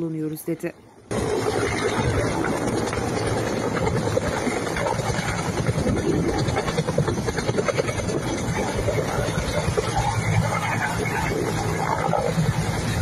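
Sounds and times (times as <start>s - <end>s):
helicopter rotor beating: 0.1s - 13.0s
turbine running: 1.1s - 13.0s.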